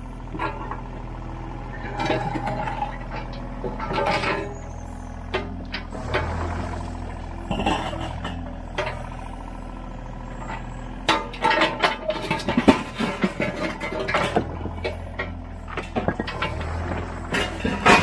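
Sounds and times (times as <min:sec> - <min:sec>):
diesel engine running: 0:00.0 - 0:18.0
bucket scraping rubble: 0:01.7 - 0:04.6, 0:05.2 - 0:09.1, 0:10.4 - 0:18.0.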